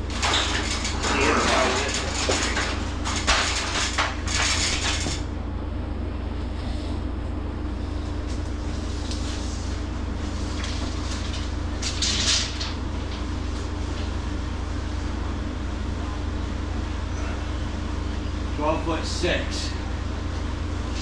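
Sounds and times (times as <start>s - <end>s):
refrigeration unit humming: 0.0s - 21.0s.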